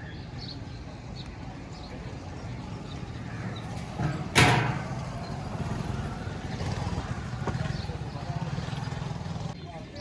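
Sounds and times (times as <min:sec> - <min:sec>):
steady low street rumble: 0:00.0 - 0:10.0.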